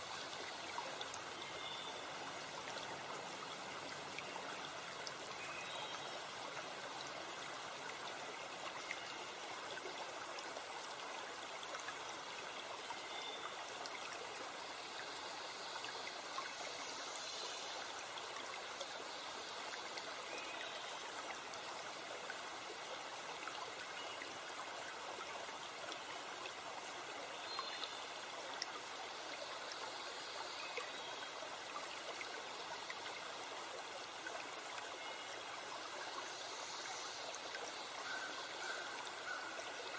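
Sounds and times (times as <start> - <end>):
stream and waterfall running: 0.0 - 39.9.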